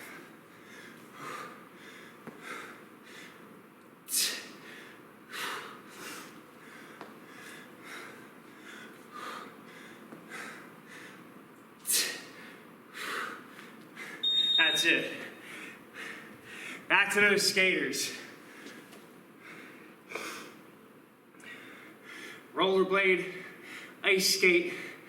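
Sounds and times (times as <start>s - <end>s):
man breathing hard: 0.0s - 14.3s, 15.2s - 16.9s, 18.2s - 20.7s, 21.4s - 22.5s, 23.2s - 24.0s, 24.6s - 25.0s.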